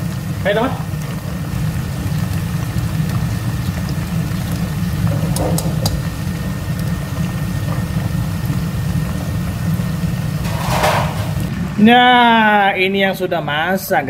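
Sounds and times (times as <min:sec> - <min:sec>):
fish frying in hot oil: 0:00.0 - 0:11.5.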